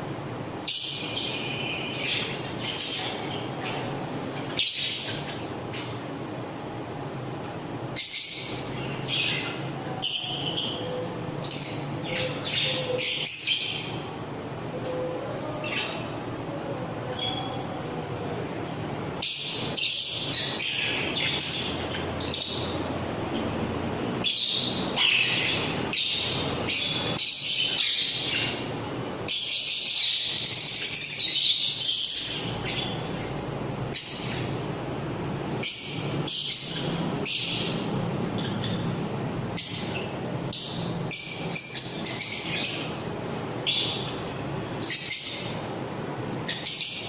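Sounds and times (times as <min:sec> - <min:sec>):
parrots screeching and chattering: 0:00.6 - 0:05.5, 0:08.0 - 0:16.2, 0:19.2 - 0:34.7, 0:35.5 - 0:39.0, 0:39.6 - 0:47.0.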